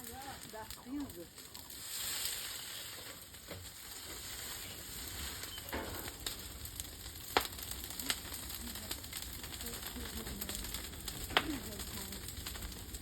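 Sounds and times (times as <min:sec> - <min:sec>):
open fire crackling: 0:00.0 - 0:13.0.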